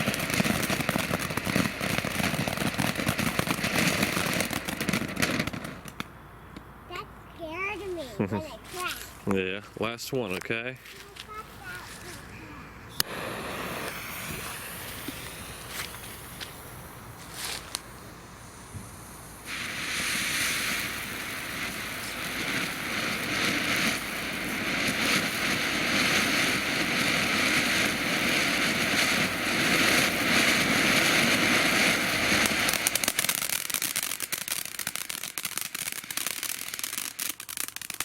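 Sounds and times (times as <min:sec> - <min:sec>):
firework fountain hissing and crackling: 0:00.0 - 0:06.2, 0:09.8 - 0:38.0.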